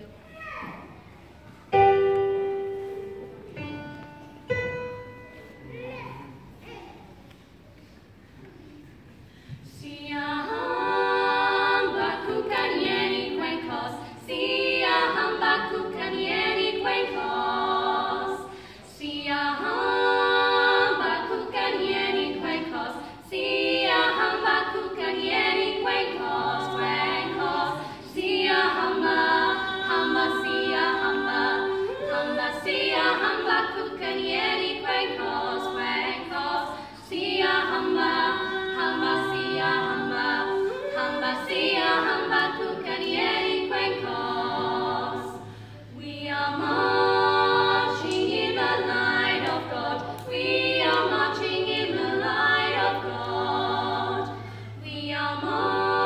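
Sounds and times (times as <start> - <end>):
women singing a cappella: 8.9 - 56.0.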